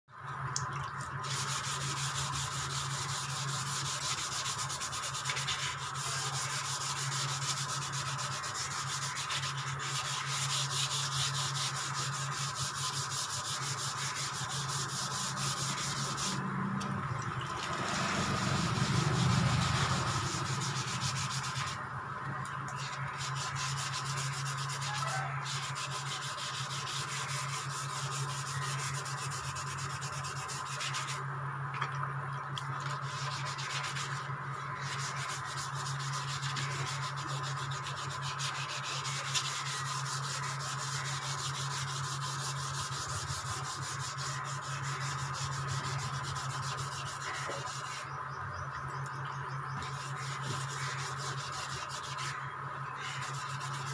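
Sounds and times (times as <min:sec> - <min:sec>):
steady low hum: 0:00.1 - 0:53.9
sanding rough rubbing: 0:01.2 - 0:16.5, 0:17.7 - 0:21.8, 0:22.7 - 0:31.2, 0:32.8 - 0:48.2, 0:49.7 - 0:53.9.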